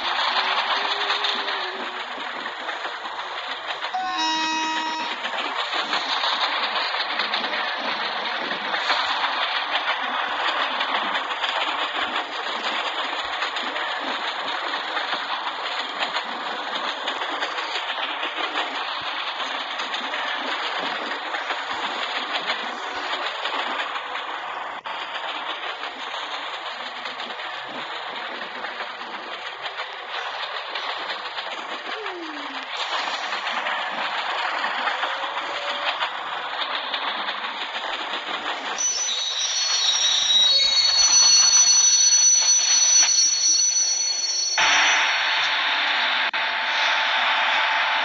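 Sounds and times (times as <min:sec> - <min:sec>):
train wheels clattering on track: 0:00.0 - 0:48.0.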